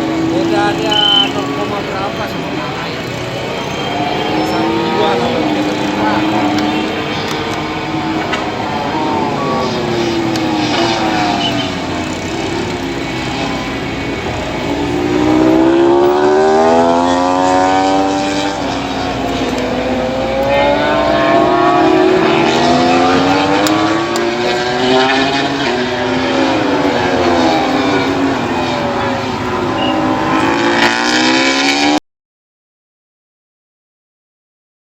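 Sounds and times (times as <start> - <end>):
racing motorcycles passing: 0.0 - 32.0.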